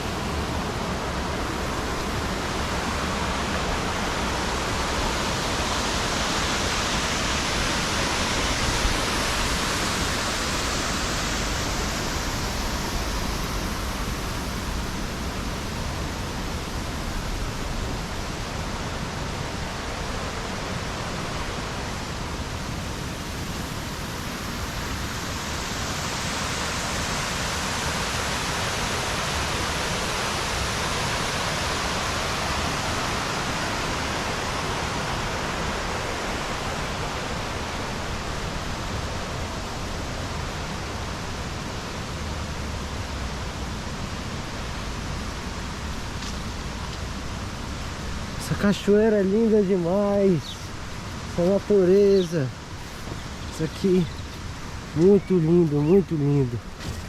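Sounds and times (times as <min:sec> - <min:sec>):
waterfall crashing into pool: 0:00.0 - 0:57.0.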